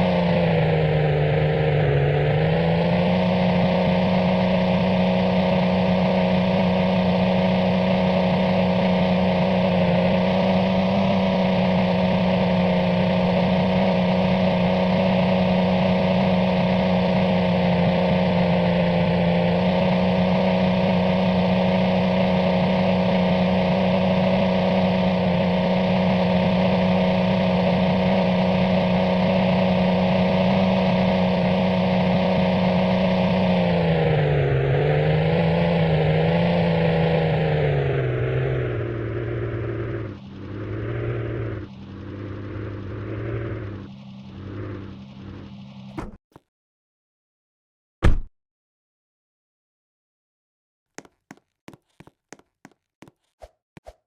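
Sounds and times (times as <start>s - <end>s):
car engine droning: 0.0s - 46.2s.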